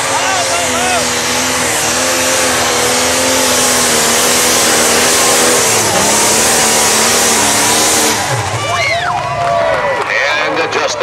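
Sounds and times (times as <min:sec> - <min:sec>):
tractor engine roaring under load: 0:00.0 - 0:11.0.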